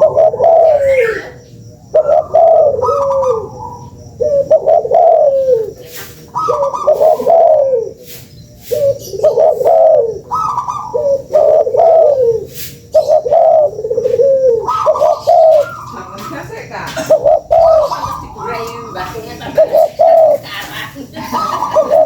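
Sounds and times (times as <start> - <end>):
dove cooing: 0.0 - 22.0.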